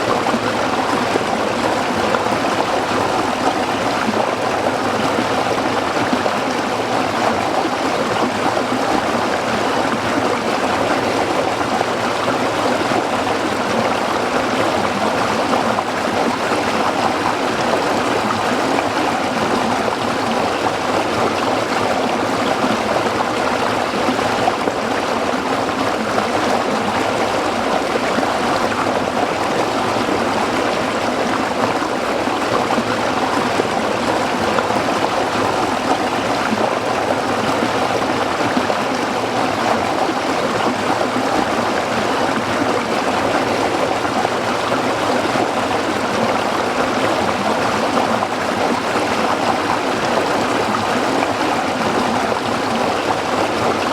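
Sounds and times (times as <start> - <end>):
stream babbling over rocks: 0.0 - 53.9.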